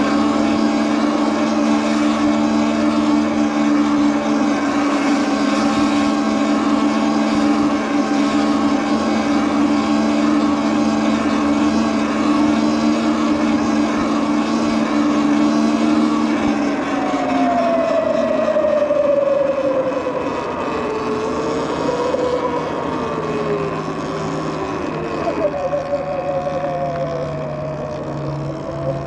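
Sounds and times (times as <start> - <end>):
electric bike motor whining: 0.0 - 29.0.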